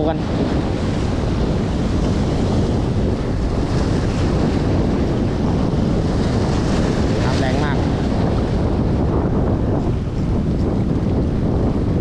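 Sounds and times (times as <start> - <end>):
choppy sea water: 0.0 - 12.0
wind buffeting microphone: 0.0 - 12.0.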